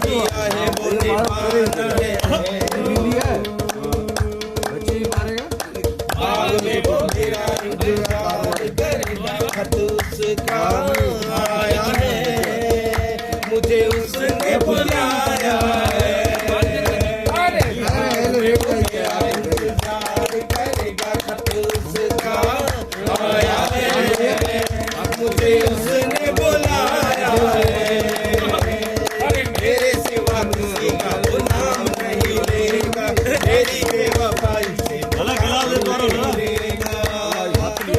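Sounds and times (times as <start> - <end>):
steady drum beat: 0.0 - 37.9.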